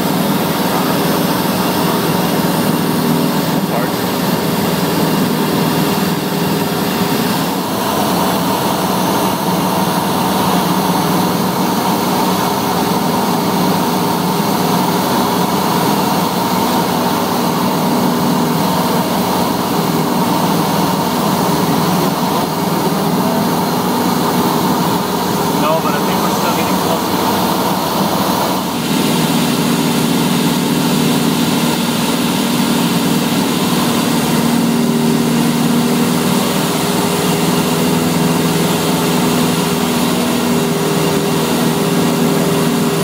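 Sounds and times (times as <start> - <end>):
airliner engine and airflow noise: 0.0 - 43.0.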